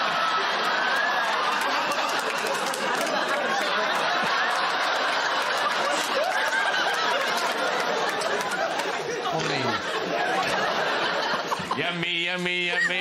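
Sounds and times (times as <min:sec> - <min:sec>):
audience laughing: 0:00.0 - 0:13.0
panellists laughing: 0:00.0 - 0:13.0.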